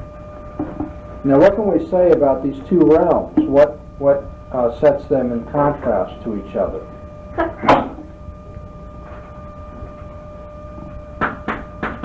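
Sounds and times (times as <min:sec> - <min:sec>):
faint high whine: 0:00.0 - 0:12.0
steady hum: 0:00.0 - 0:12.0.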